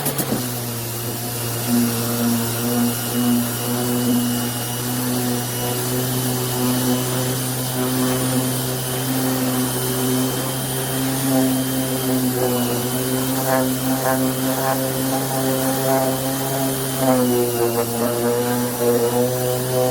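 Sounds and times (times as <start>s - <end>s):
electric orbital sander running: 0.0s - 19.9s.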